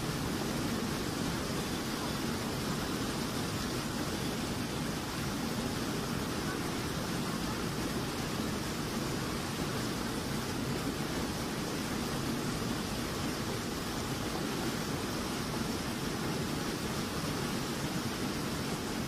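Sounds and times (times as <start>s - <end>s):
water rushing through channel: 0.0s - 19.0s.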